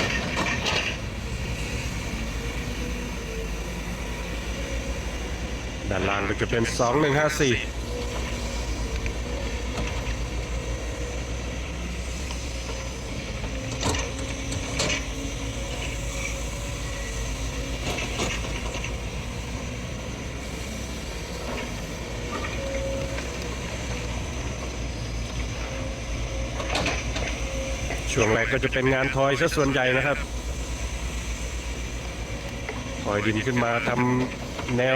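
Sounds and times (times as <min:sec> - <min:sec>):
excavator diesel engines running: 0:00.0 - 0:34.9.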